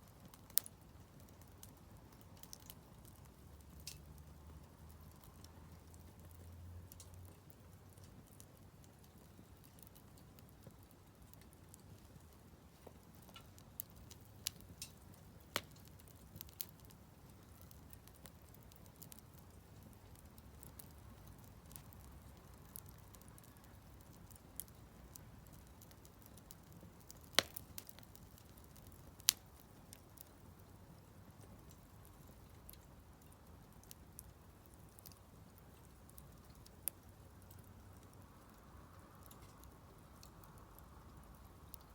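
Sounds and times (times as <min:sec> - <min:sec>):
fire crackling and popping: 0:00.0 - 0:41.9
low rush of fire: 0:00.0 - 0:41.9.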